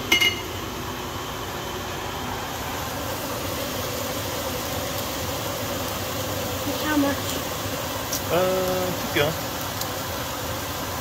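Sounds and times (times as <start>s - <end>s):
vegetables sizzling in a skillet: 0.0s - 11.0s.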